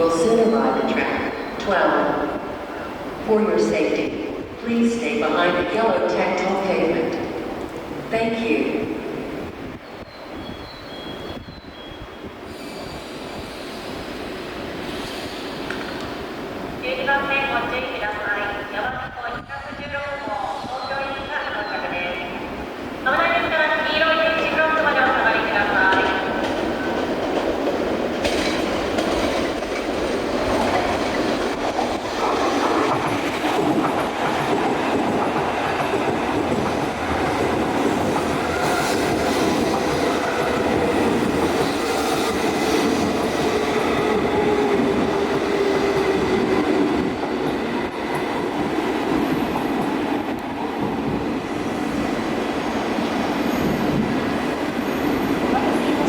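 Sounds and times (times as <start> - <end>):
train rolling and braking: 0.0 - 8.2, 9.2 - 18.8, 19.4 - 56.0.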